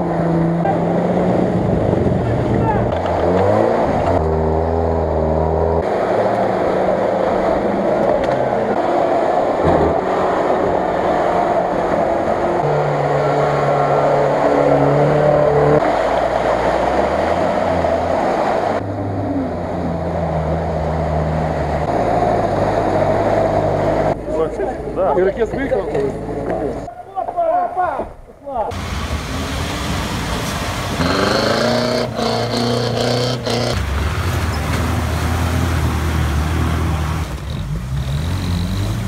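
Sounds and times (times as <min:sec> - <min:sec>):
wheels churning mud and water: 0:00.0 - 0:26.8, 0:28.7 - 0:39.0
off-road engines revving: 0:00.0 - 0:26.9, 0:28.7 - 0:39.0.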